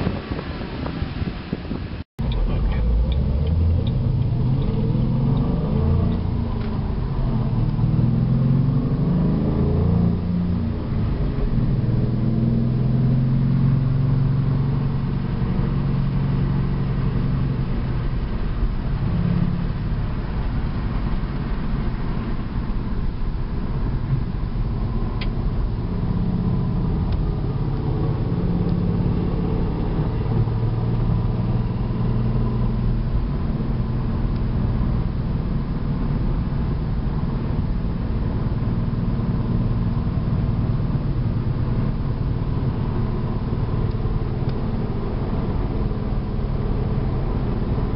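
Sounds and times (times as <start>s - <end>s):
car engine droning: 0.0s - 47.9s
road noise: 0.0s - 47.9s.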